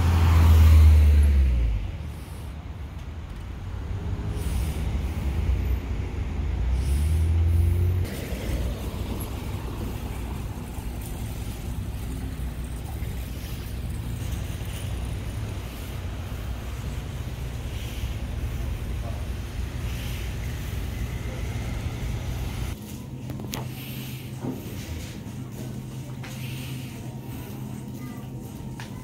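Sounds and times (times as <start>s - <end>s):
road traffic rumble: 0.0s - 29.0s
steady outdoor hum: 0.0s - 29.0s.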